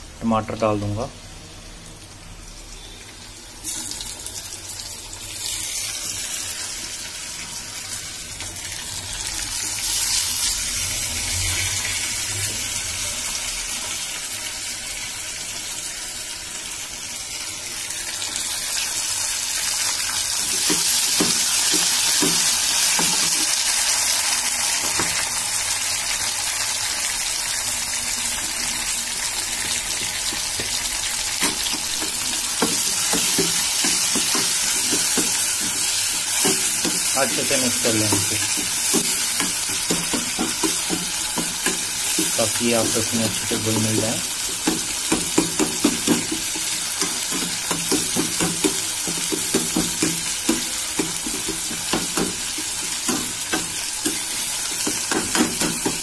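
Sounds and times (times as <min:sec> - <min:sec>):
tomatoes sizzling in hot oil: 0:00.1 - 0:56.0.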